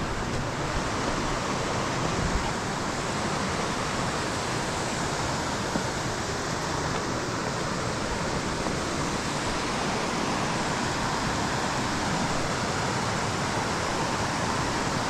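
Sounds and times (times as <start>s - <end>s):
creek rushing over rapids: 0.0s - 15.0s.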